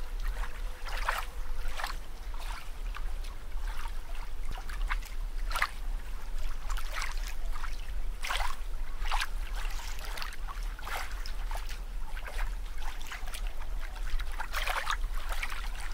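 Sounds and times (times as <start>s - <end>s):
steady low hum: 0.0s - 15.9s
water bubbling and dripping: 0.0s - 15.9s.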